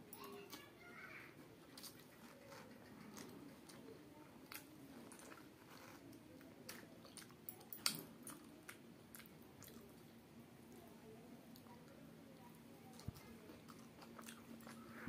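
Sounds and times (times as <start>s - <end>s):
faint chewing: 0.1s - 15.0s.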